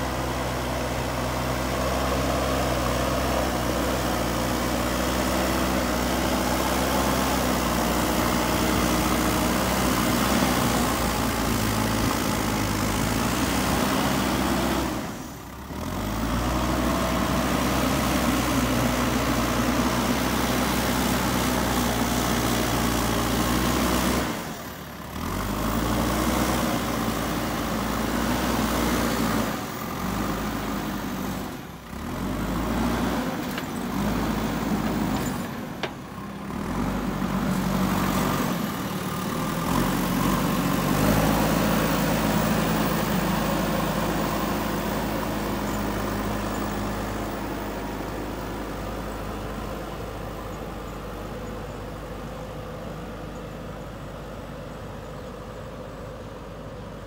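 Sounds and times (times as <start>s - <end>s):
loader bucket pushing soil: 0.0s - 52.0s
diesel engine running: 0.0s - 57.0s.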